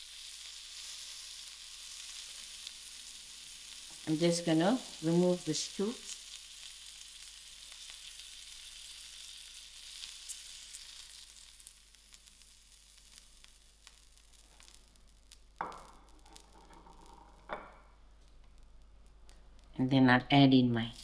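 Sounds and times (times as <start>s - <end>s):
skewers sizzling on griddle: 0.0s - 19.8s.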